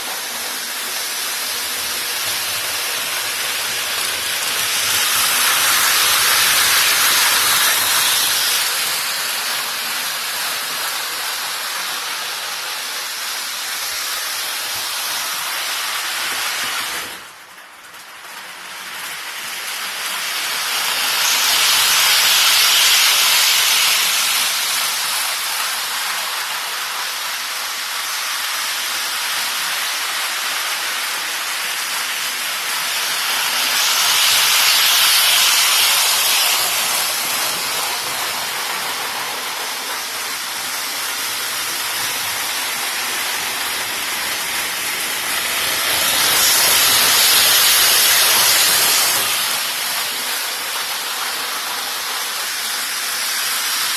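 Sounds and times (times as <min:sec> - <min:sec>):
model trains rolling on track: 0:00.0 - 0:53.9.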